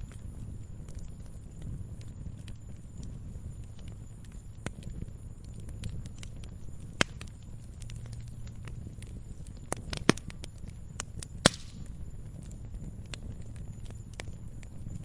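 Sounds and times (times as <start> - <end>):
campfire rumble and crackles: 0.0 - 15.0
loud sharp fire pops: 0.0 - 15.0.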